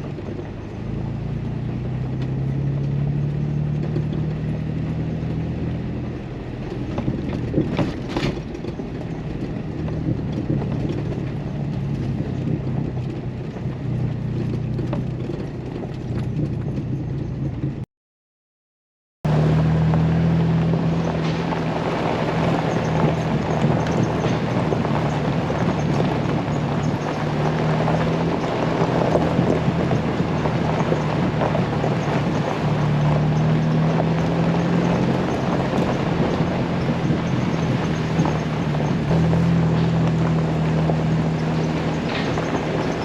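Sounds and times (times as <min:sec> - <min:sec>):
car engine running: 0:00.0 - 0:17.8, 0:19.3 - 0:43.0
road and wind noise: 0:00.0 - 0:17.9, 0:19.2 - 0:43.0.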